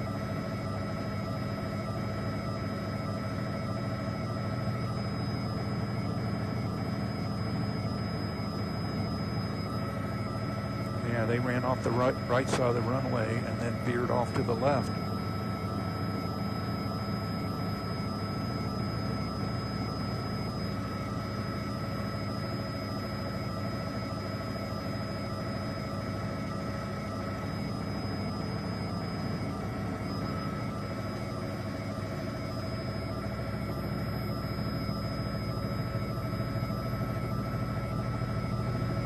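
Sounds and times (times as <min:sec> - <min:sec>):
helicopter drone from cabin: 0:00.0 - 0:39.0.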